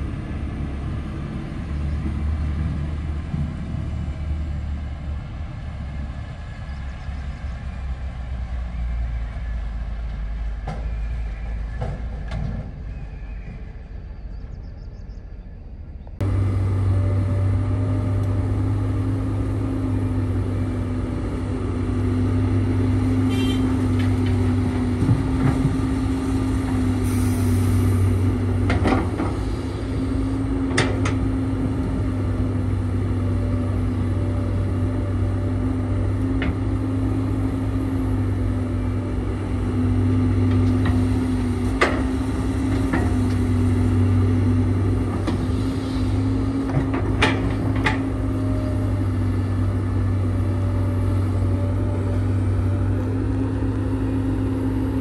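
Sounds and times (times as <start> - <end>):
diesel machinery running: 0.0 - 55.0.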